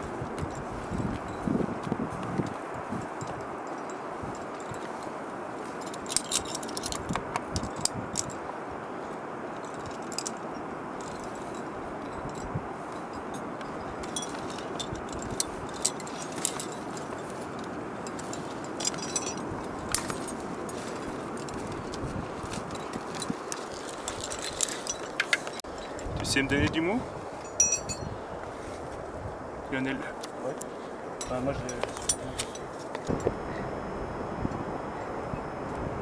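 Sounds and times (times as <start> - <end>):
metal climbing gear clinking: 0.0 - 28.3, 30.6 - 33.2
steady background hiss: 0.0 - 36.0.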